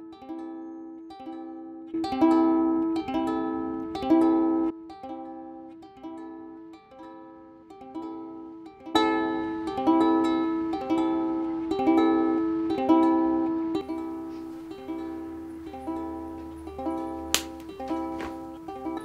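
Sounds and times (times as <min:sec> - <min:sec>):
gentle plucked-string music: 0:00.0 - 0:19.0.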